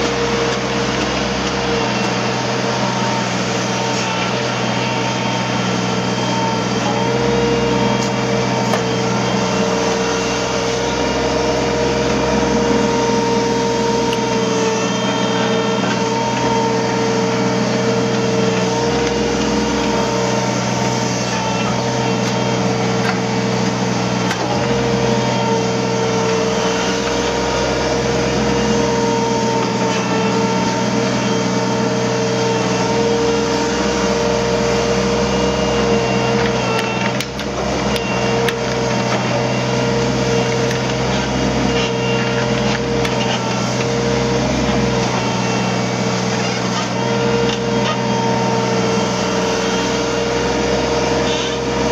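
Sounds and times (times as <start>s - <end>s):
excavator diesel engine hum: 0.0s - 51.9s
hydraulic whine: 0.0s - 51.9s.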